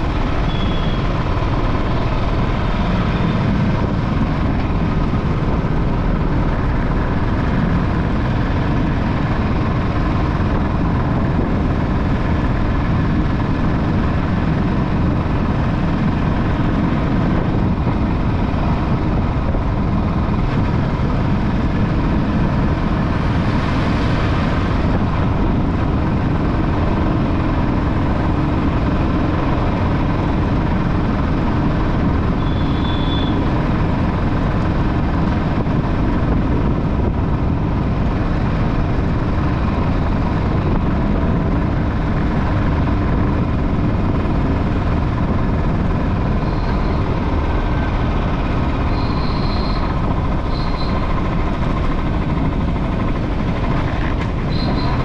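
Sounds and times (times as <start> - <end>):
motorbike engine and wind noise: 0.0 - 55.0.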